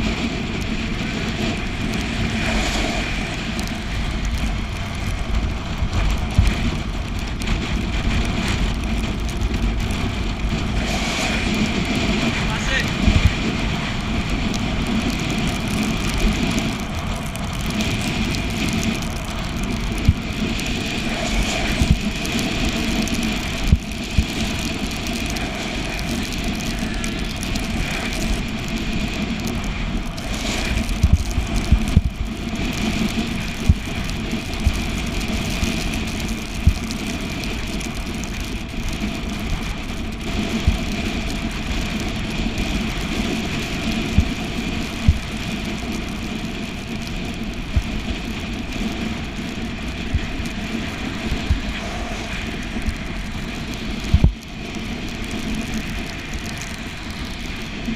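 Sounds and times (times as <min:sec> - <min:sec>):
bicycle road and wind noise: 0:00.0 - 0:57.9.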